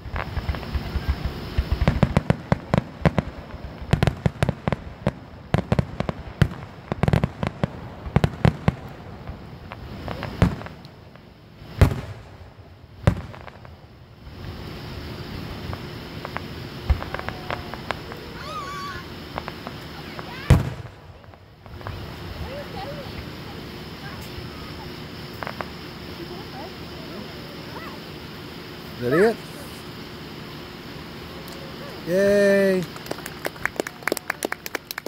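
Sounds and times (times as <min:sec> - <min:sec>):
fireworks bursting: 0:00.0 - 0:35.0
fireworks crackling: 0:00.0 - 0:35.0
loud fireworks booms: 0:00.0 - 0:35.0.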